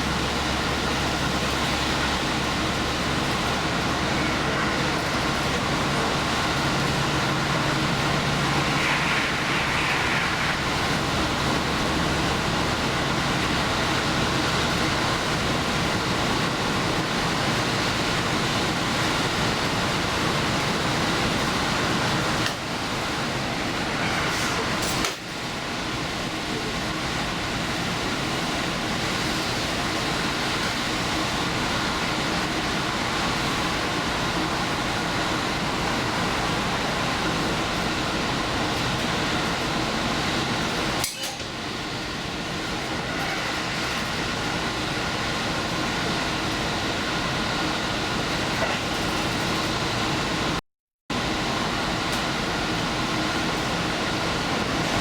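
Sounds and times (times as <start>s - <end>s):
railcar engine and wheels rumbling: 0.0s - 55.0s.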